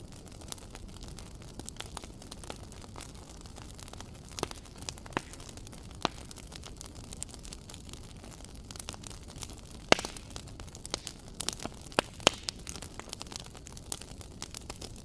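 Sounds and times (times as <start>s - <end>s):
fire pops: 0.0s - 15.0s
wood fire crackling: 0.0s - 15.0s.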